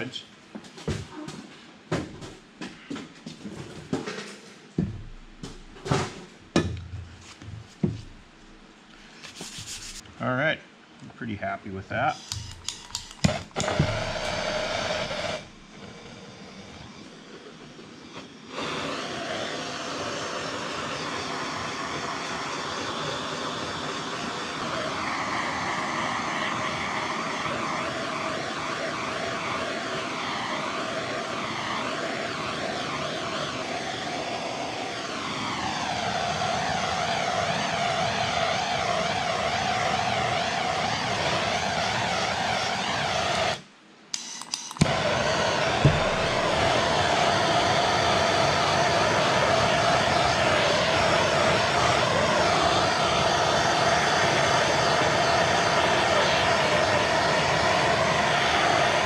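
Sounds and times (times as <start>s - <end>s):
gas torch flame hissing: 4.0s - 10.1s, 11.6s - 59.0s.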